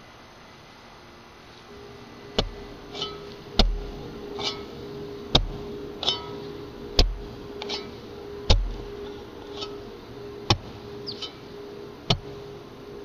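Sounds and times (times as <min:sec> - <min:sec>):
low held tone: 0:01.6 - 0:13.0.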